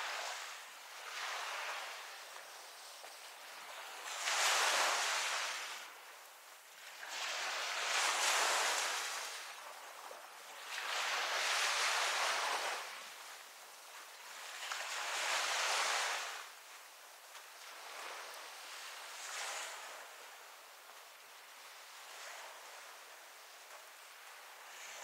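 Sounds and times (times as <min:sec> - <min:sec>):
small waves breaking on shore: 0:00.0 - 0:25.0.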